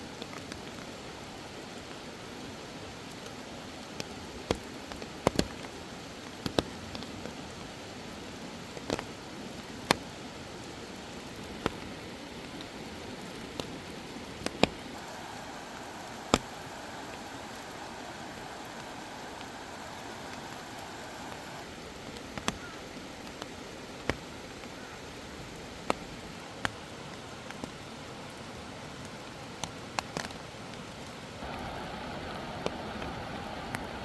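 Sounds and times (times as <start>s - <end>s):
steady rain hiss: 0.0s - 34.0s
large raindrops tapping: 3.1s - 7.7s, 8.6s - 34.0s.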